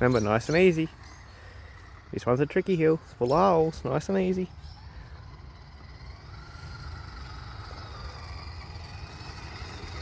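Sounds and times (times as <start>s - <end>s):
toy car electric motor whining: 0.0s - 10.0s.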